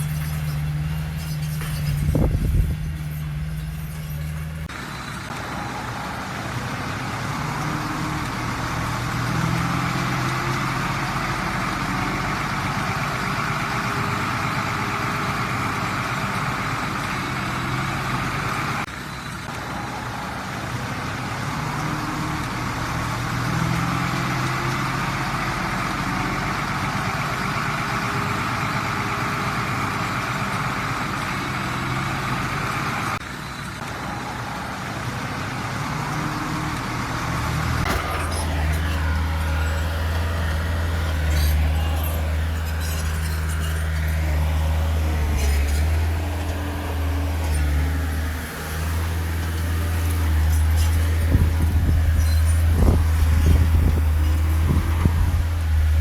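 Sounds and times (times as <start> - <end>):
heavy diesel engines working: 0.0 - 56.0.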